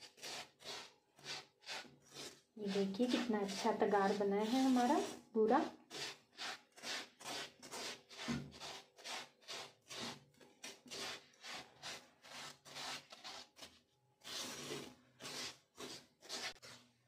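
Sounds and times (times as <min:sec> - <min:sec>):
spatula scraping sugar in a pan: 0:00.0 - 0:17.0.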